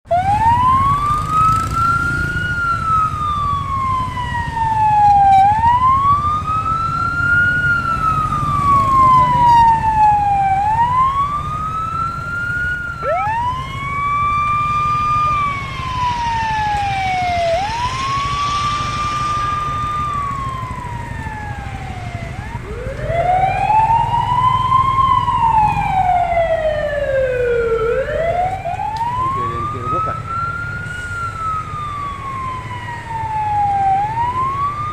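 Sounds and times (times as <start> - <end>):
engine and traffic rumble: 0.1 - 34.9
fire truck siren wailing: 0.1 - 34.9.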